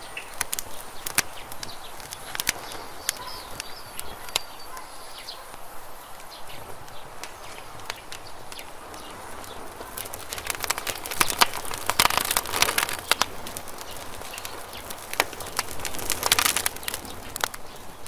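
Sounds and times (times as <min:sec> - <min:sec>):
campfire wood crackling: 0:00.0 - 0:18.0
soft hiss of fire: 0:00.0 - 0:18.0.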